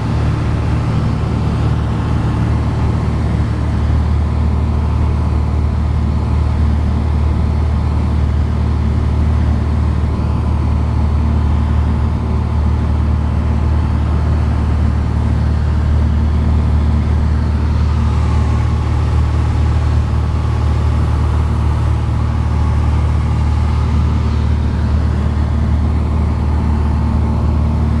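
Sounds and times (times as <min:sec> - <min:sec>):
piston engine and propeller droning: 0:00.0 - 0:28.0.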